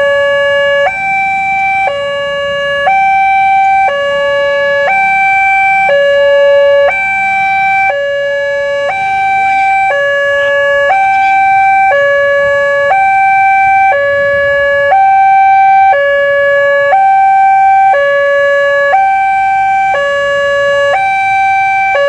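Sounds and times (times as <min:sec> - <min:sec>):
two-tone electronic siren: 0:00.0 - 0:22.0.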